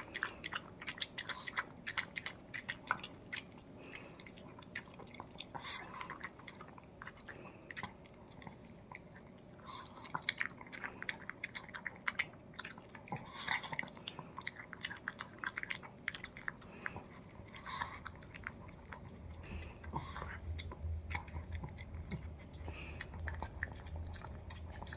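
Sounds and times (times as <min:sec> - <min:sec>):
dog chewing food: 0:00.0 - 0:24.9.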